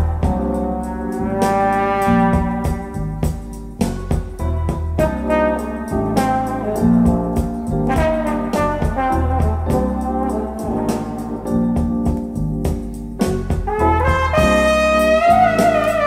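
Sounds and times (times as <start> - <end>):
jazz from a vinyl record: 0.0 - 16.0.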